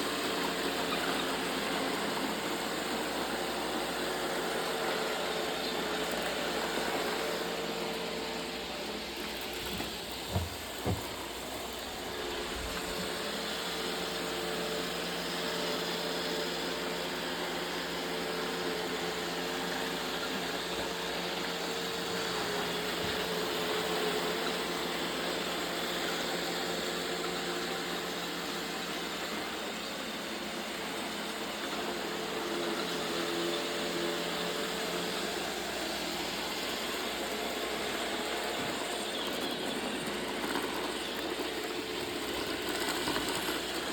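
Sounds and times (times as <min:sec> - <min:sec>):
robot vacuum motor whirring: 0:00.0 - 0:43.9.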